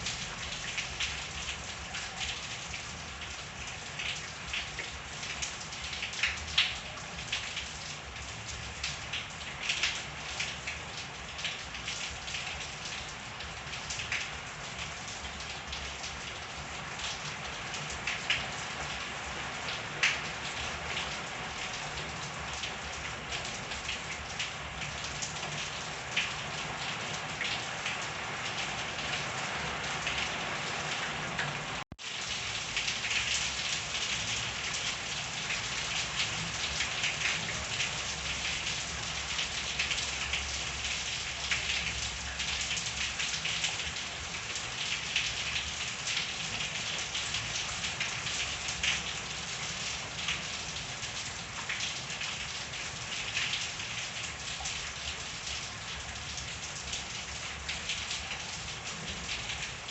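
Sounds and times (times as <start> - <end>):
rain drops pattering: 0.0 - 59.9.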